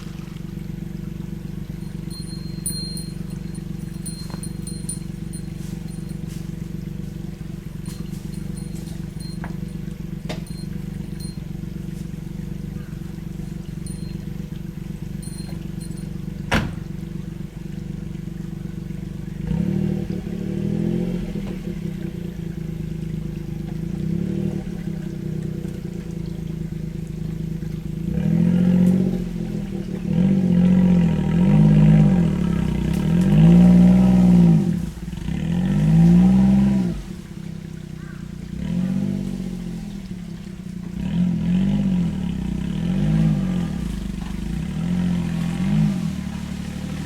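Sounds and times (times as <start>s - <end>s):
car engine revving while driving: 0.0s - 47.0s.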